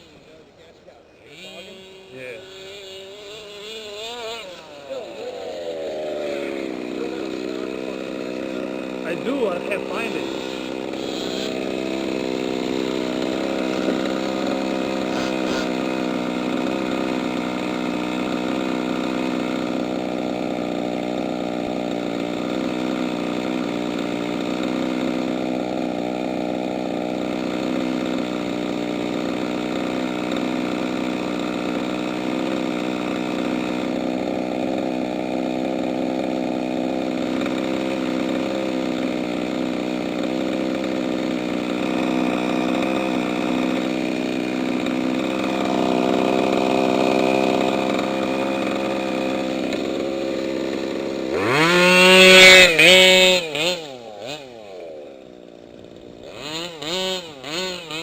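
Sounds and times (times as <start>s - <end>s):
small two-stroke engine idling: 0.0s - 58.0s.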